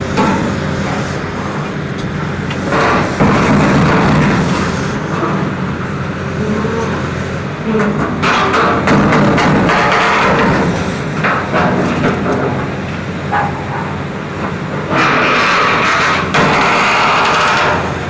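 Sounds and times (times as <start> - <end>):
heavy equipment engine running: 0.0 - 18.0.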